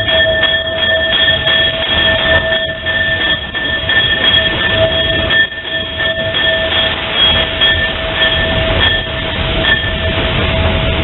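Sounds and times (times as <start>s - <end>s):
high-pitched squeal: 0.0s - 11.0s
steam locomotive running slowly: 0.0s - 11.0s.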